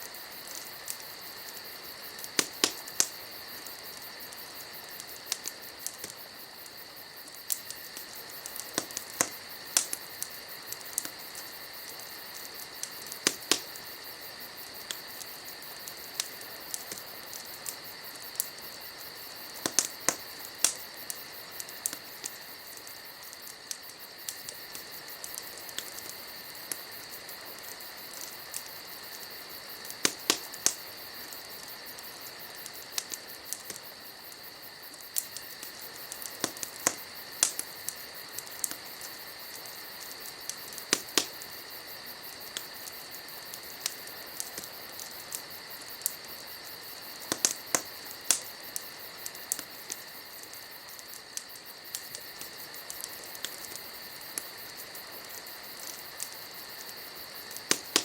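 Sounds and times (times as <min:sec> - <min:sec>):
insects trilling: 0:00.0 - 0:58.0
wood fire crackling: 0:00.0 - 0:58.0.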